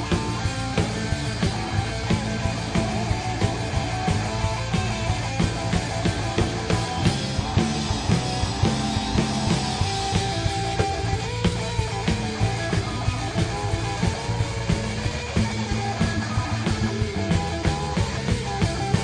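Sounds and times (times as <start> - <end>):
drum kit hits: 0.0 - 16.2
bass guitar: 0.0 - 19.0
electric guitar: 0.0 - 19.0.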